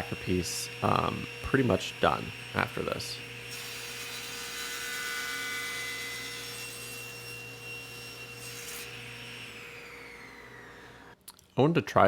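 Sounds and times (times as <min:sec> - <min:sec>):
table saw blade whining: 0:00.0 - 0:11.2.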